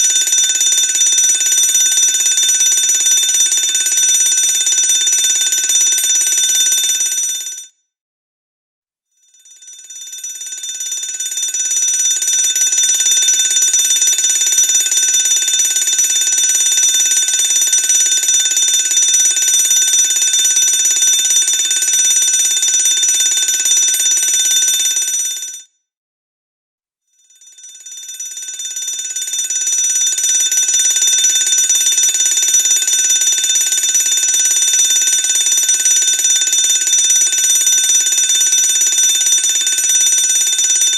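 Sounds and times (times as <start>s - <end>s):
fire alarm bell ringing: 0.0s - 7.6s, 9.3s - 25.6s, 27.3s - 40.9s.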